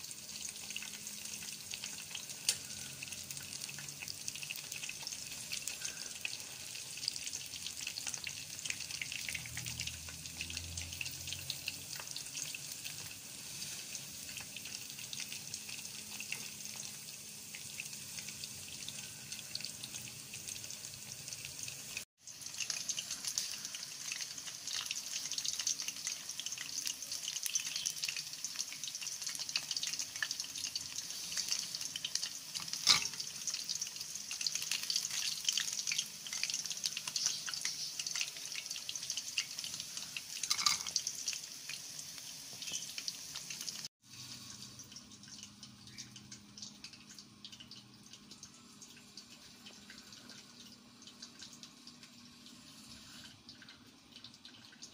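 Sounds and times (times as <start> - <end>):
chicken frying in hot oil: 0.0 - 54.9.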